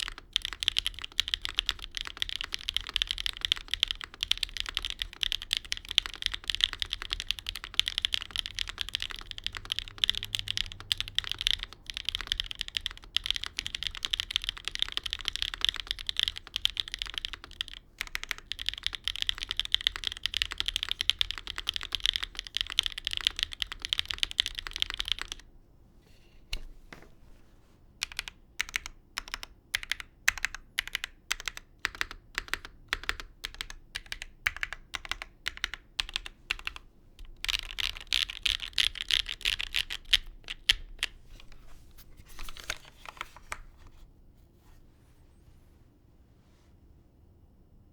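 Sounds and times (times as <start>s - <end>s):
mechanical keyboard typing: 0.0s - 25.5s, 28.0s - 41.2s.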